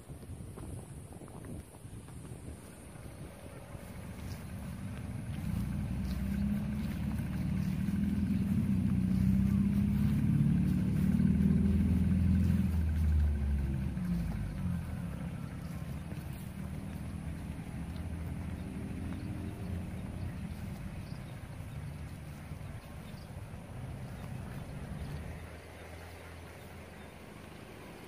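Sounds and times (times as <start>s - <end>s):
engine passing by: 2.0s - 28.0s.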